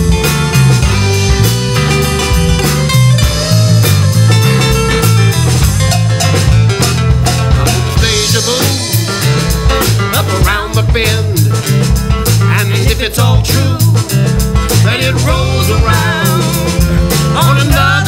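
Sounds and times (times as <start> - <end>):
bass line: 0.0 - 18.0
drum kit beat: 0.0 - 18.0
guitar: 0.0 - 18.0.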